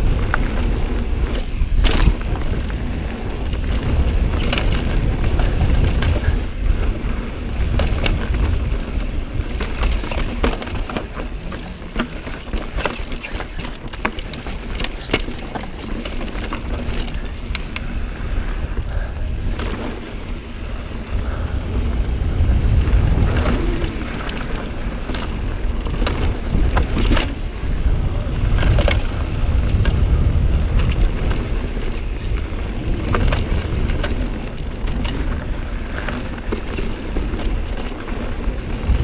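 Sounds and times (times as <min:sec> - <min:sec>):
bike rattling and knocking: 0:00.0 - 0:39.0
tyres rolling over dirt and rock: 0:00.0 - 0:39.0
wind buffeting microphone: 0:00.0 - 0:39.0.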